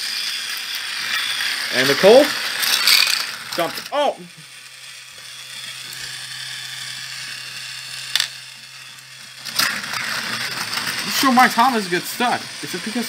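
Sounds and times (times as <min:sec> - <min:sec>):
toy train motor humming: 0:00.0 - 0:13.0.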